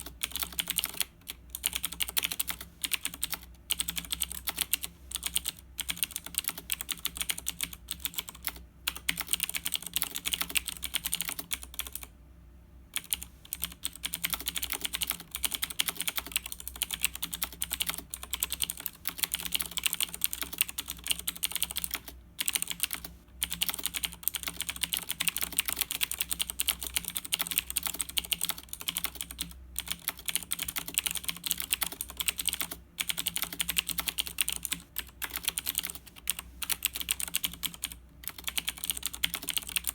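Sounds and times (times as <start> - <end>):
mechanical keyboard typing: 0.0 - 12.1, 13.0 - 39.9.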